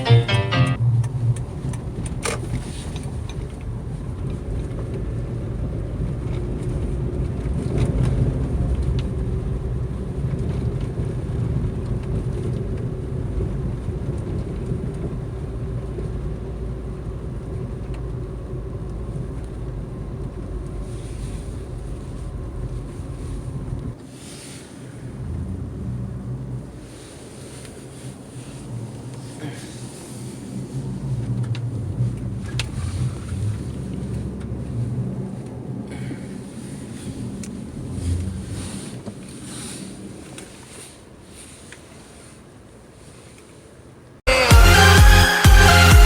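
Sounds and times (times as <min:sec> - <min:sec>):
road and tyre noise: 0:00.8 - 0:44.3.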